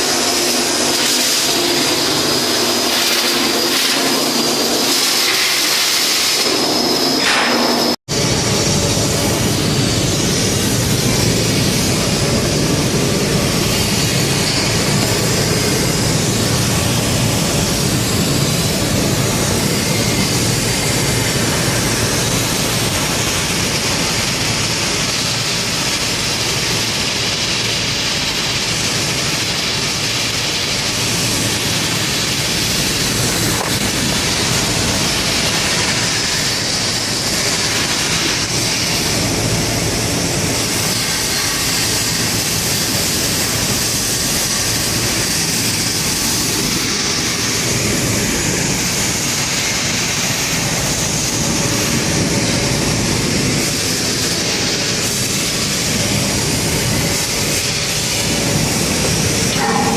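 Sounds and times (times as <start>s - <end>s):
welding arc crackle and hiss: 0.0s - 59.9s.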